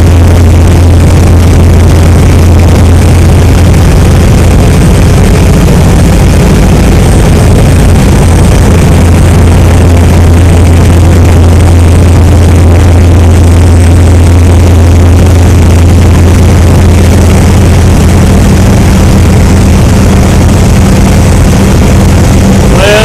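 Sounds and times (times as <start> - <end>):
motorboat engine drone: 0.0 - 23.0
rushing wake water: 0.0 - 23.0.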